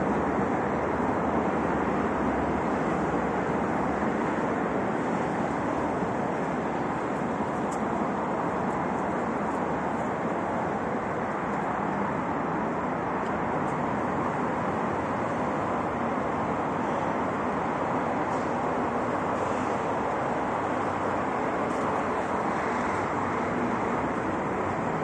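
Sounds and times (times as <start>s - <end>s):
city road traffic hum: 0.0s - 25.0s.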